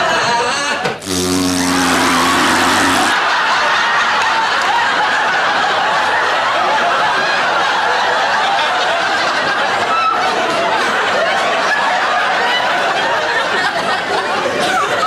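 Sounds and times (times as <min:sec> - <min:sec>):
studio audience laughing: 0:01.9 - 0:09.8, 0:10.4 - 0:15.0.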